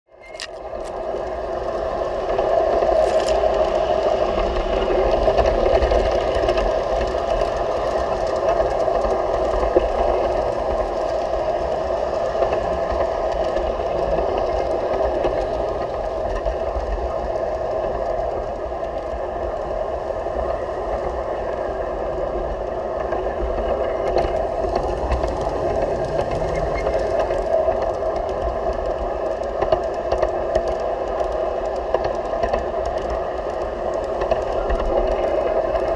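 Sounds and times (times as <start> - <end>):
model train wheels rattling: 0.2 - 35.9.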